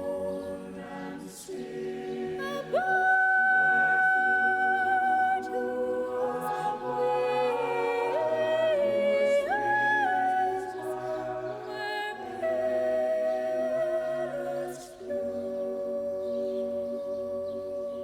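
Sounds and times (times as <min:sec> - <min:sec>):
voices singing held notes: 0:00.0 - 0:18.0.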